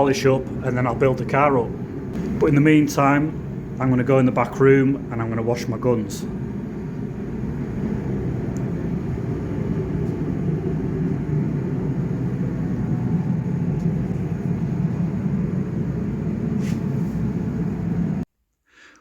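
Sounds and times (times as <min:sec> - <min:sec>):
low rumble of running machinery: 0:00.0 - 0:18.3.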